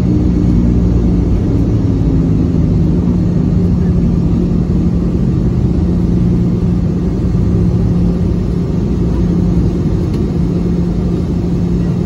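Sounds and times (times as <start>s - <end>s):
aircraft cabin rumble: 0.0s - 12.0s
steady hum: 0.0s - 12.0s.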